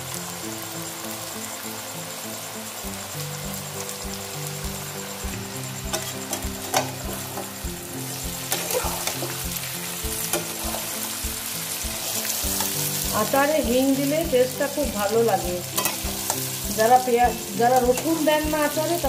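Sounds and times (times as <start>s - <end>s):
food sizzling in hot oil: 0.0s - 19.0s
soft background music with beat: 0.0s - 19.0s.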